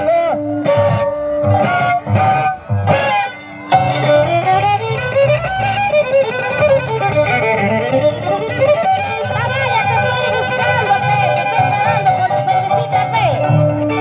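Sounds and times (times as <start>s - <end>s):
pulsing bass: 0.0s - 14.0s
violin folk melody: 0.0s - 14.0s.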